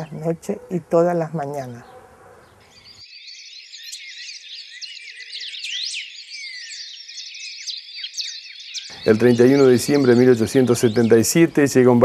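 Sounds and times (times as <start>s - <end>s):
songbirds chirping and whistling: 0.0s - 12.0s.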